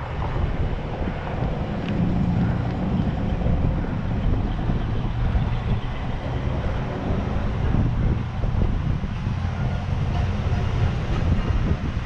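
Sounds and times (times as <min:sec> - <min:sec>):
bicycle tyre rumble on concrete: 0:00.0 - 0:12.0
wind noise on microphone: 0:00.0 - 0:12.0.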